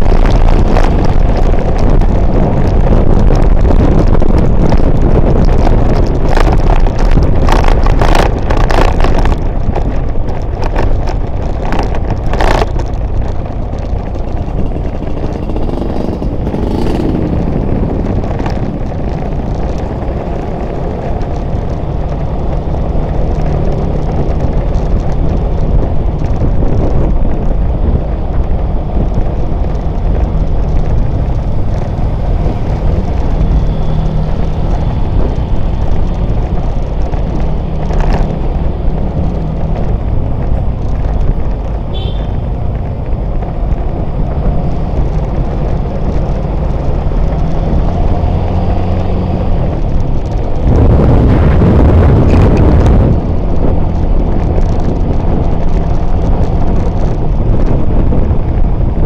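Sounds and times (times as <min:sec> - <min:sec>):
motorbike engines running: 0:00.0 - 0:59.0
tyre noise on road: 0:00.0 - 0:59.0
wind rushing over microphone: 0:00.0 - 0:59.0.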